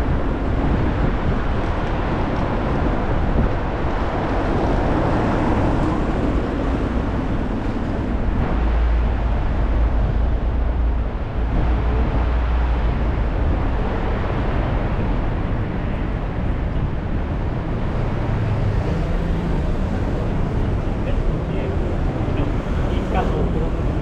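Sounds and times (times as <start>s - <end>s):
deep low traffic rumble: 0.0s - 24.0s.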